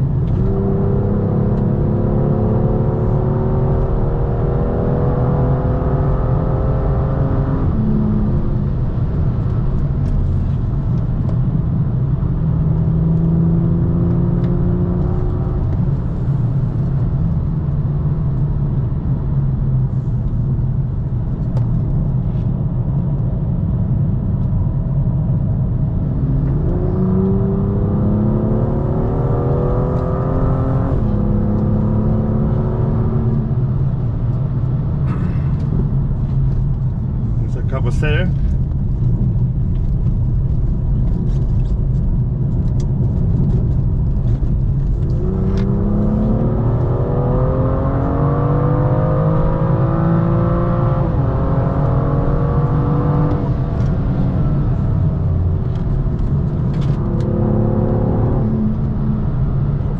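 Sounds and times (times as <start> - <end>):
car engine accelerating: 0.0 - 22.4, 25.2 - 59.9
road and tyre rumble: 0.0 - 59.9.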